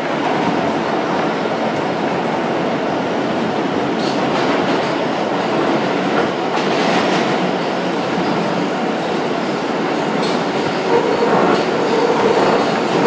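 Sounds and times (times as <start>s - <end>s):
subway wheels rumbling on rails: 0.0s - 13.0s.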